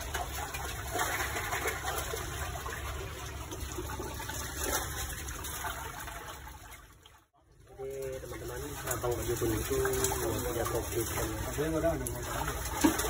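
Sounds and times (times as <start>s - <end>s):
rushing splashing water: 0.0s - 7.2s, 7.9s - 13.0s.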